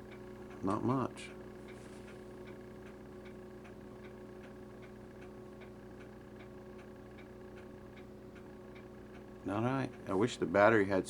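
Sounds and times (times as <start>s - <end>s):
faint regular ticking: 0.0s - 11.0s
low electrical hum: 0.0s - 11.0s.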